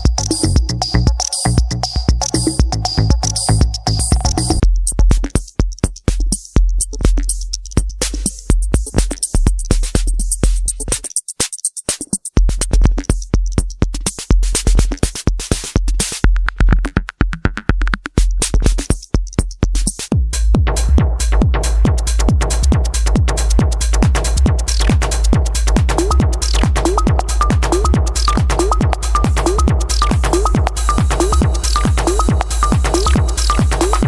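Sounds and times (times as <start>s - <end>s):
kick drum: 0.0s - 11.1s, 12.3s - 34.0s
hi-hat clicks: 0.0s - 16.6s, 18.0s - 34.0s.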